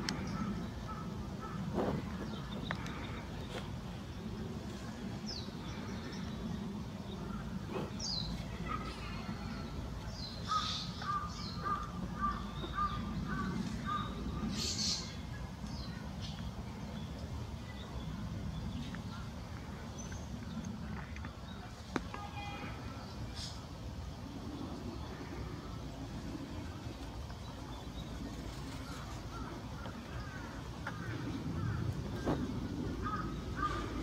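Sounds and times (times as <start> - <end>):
birds calling: 0.0 - 34.0
steady low rumble: 0.0 - 34.0.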